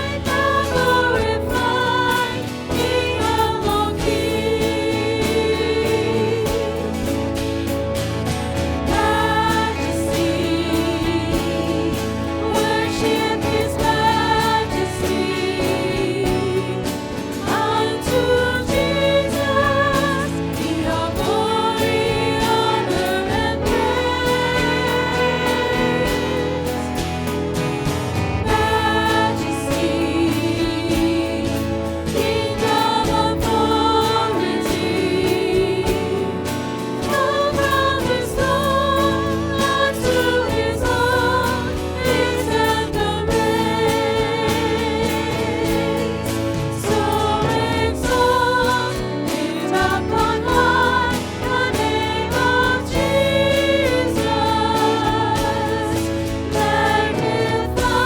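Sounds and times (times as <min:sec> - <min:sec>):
choir singing a hymn: 0:00.0 - 0:58.0
instrumental accompaniment: 0:00.0 - 0:58.0.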